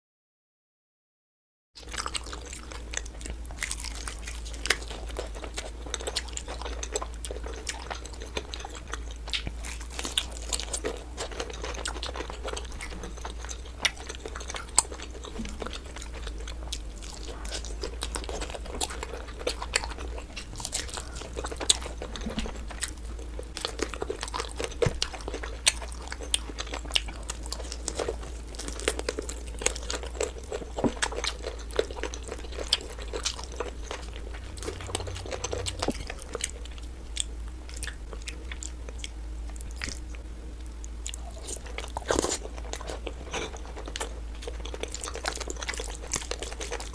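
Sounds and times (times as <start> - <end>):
chewing crunchy fried chicken: 1.8 - 46.9
steady low hum: 1.8 - 46.9.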